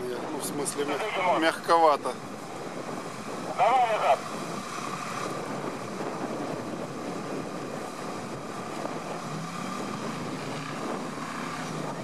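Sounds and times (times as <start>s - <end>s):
wind on microphone: 0.0s - 12.0s
truck engine under load: 0.6s - 12.0s.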